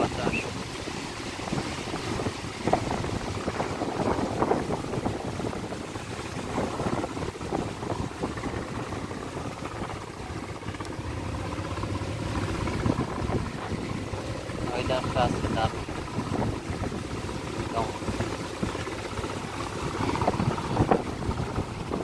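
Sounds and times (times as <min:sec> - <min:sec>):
choppy river water: 0:00.0 - 0:22.0
faint boat engine hum: 0:00.0 - 0:22.0
wind buffeting microphone: 0:00.0 - 0:22.0.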